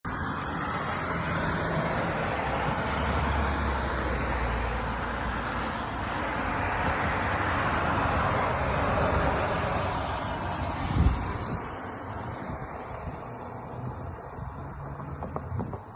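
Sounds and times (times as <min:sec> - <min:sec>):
road traffic hiss: 0:00.1 - 0:15.9
vehicle passing rumble: 0:00.1 - 0:15.9.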